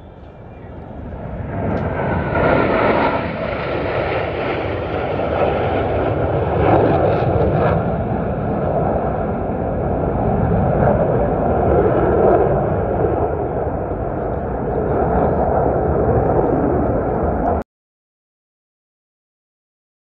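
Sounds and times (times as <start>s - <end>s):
jet roar: 0.0s - 17.6s.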